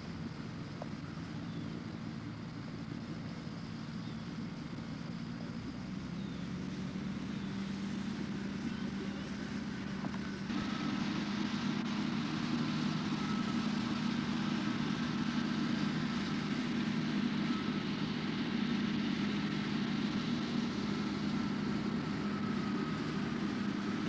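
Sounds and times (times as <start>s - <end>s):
engine running steadily: 0.0s - 24.0s
faint high whine: 0.0s - 24.0s.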